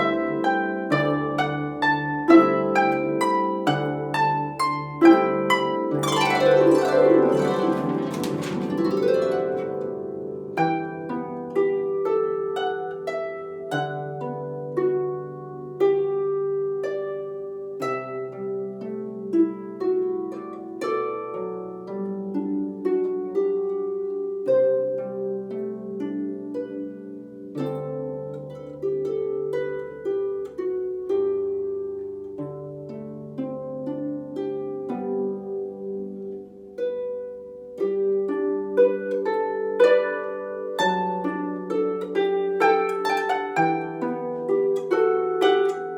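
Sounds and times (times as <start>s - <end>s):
harp playing plucked melody: 0.0s - 45.9s.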